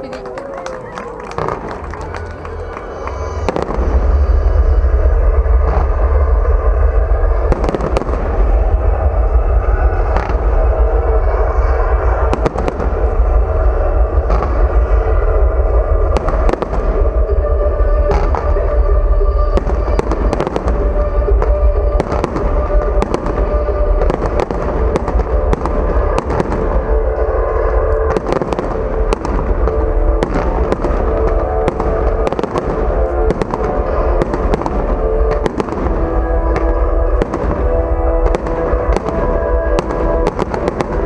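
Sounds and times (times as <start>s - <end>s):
fireworks bangs and crackles: 0.0s - 41.0s
heavy low rumble: 0.0s - 41.0s
music playing: 0.0s - 41.0s.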